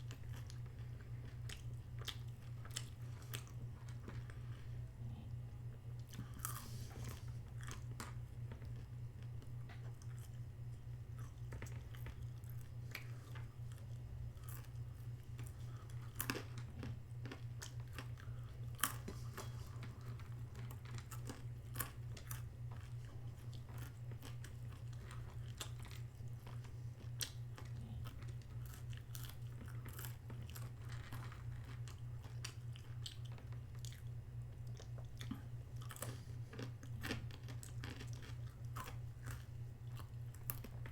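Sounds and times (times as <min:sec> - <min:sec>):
chewing and crunching: 0:00.0 - 0:40.9
steady low hum: 0:00.0 - 0:40.9.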